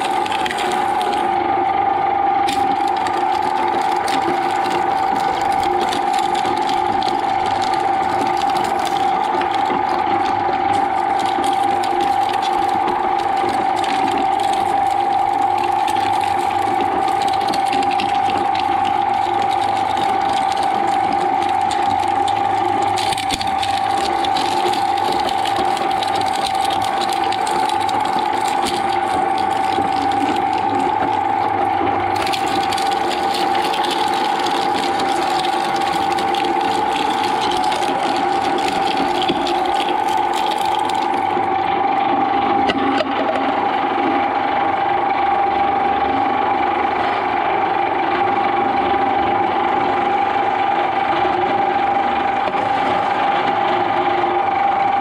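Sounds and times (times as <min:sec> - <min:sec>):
shredder tearing green stalk: 0:00.0 - 0:44.7
shredder motor whine: 0:00.0 - 0:55.0.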